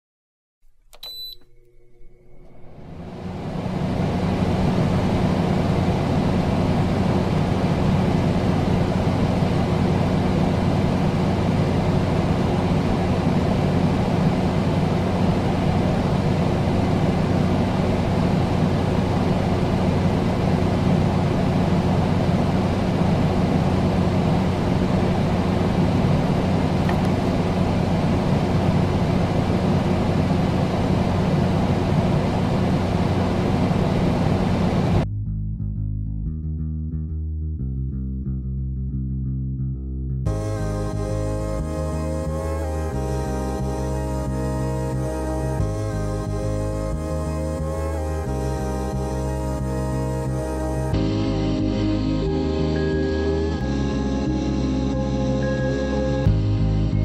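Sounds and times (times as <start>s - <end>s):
low hum: 0.7s - 57.0s
loud mechanical drone: 2.5s - 35.0s, 40.3s - 57.0s.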